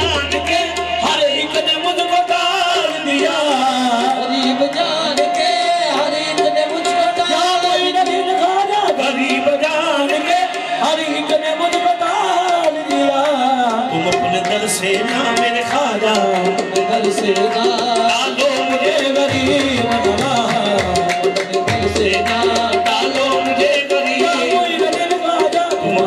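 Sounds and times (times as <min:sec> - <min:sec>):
person singing: 0:00.0 - 0:26.0
tabla drumming: 0:00.0 - 0:26.0.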